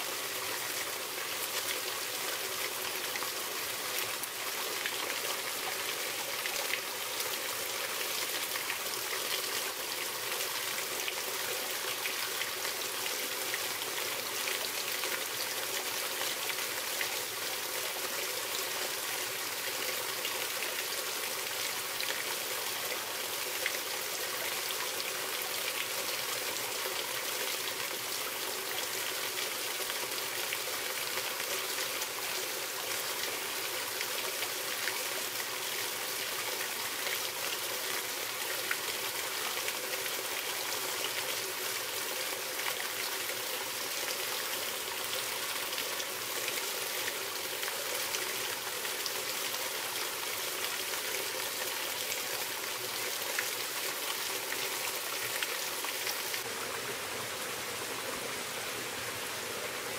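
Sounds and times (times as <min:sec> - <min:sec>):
stream splashing over stones: 0:00.0 - 0:59.9.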